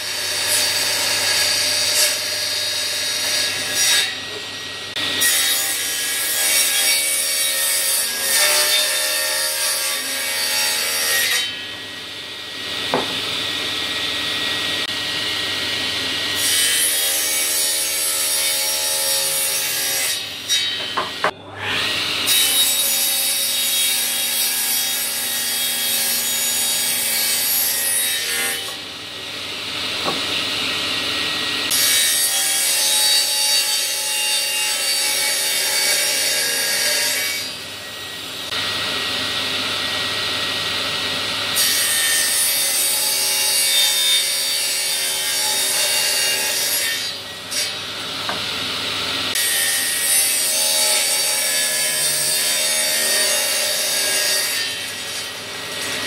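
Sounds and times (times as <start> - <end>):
table saw cutting plywood: 0.0 - 56.0.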